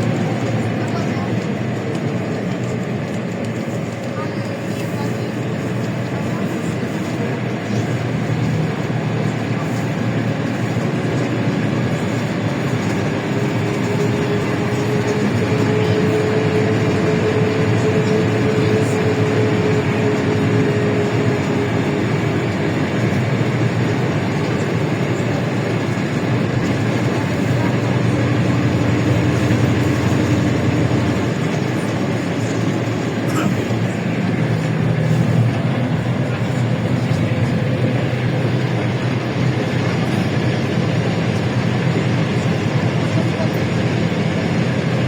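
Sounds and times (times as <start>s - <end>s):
bus engine running: 0.0s - 45.0s
road noise: 0.0s - 45.0s.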